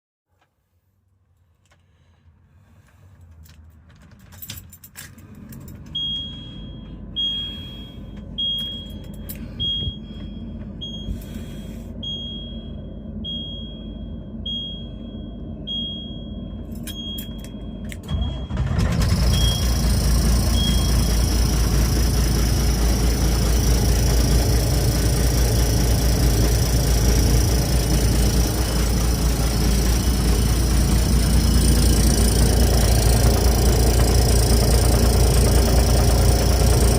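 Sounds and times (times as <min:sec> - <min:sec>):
pump and engine roaring: 0:02.7 - 0:36.9
truck engine idling: 0:05.3 - 0:36.9
high warning beep: 0:06.0 - 0:11.3, 0:12.0 - 0:36.9.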